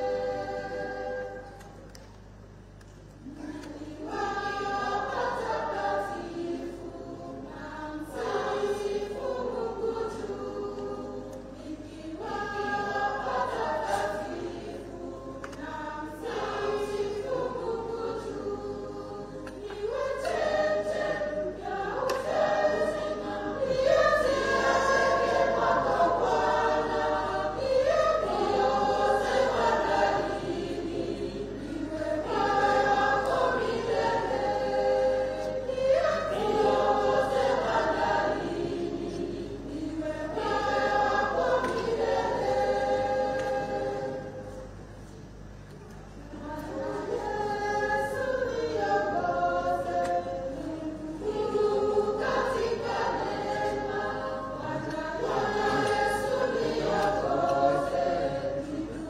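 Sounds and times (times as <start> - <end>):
choir singing a hymn in harmony: 0.0 - 2.0, 3.2 - 59.0.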